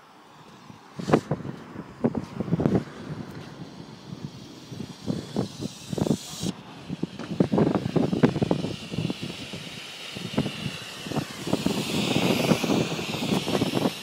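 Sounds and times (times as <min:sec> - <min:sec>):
smoke bombs hissing: 0:00.2 - 0:14.0
wind and handling rumble: 0:00.5 - 0:14.0.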